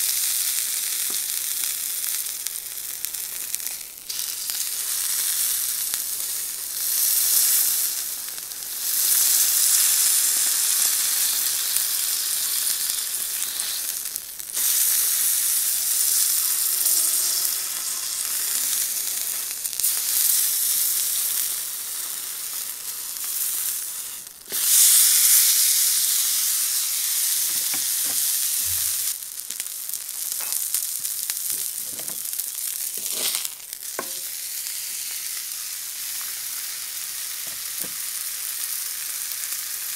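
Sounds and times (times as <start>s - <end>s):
crackles: 0.0s - 34.4s
steak sizzling on griddle: 0.0s - 39.9s.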